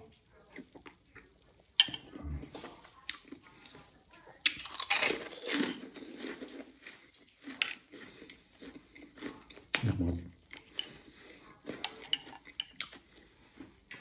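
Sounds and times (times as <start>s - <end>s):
crunching of crackers: 0.3s - 14.0s.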